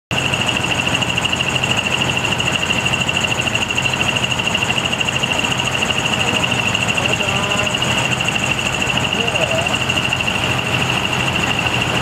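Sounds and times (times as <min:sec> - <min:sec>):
high-pitched whine: 0:00.1 - 0:12.0
truck engines idling: 0:00.1 - 0:12.0.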